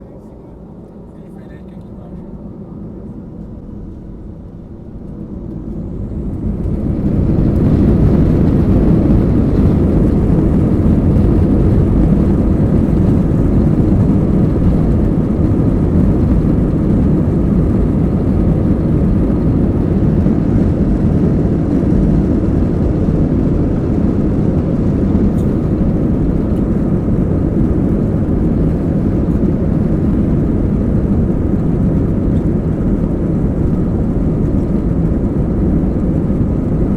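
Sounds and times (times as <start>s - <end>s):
jet engines rumbling from cabin: 0.0s - 36.9s.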